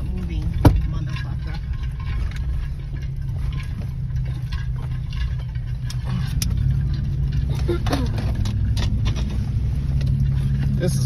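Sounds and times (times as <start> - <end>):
light clicks and rattles: 0.0 - 11.0
truck engine and tyres rumbling: 0.0 - 11.0.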